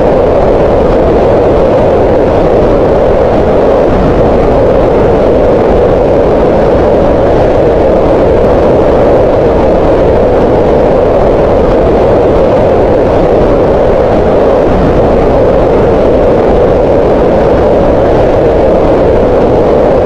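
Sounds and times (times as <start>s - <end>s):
green noise rushing: 0.0s - 20.0s.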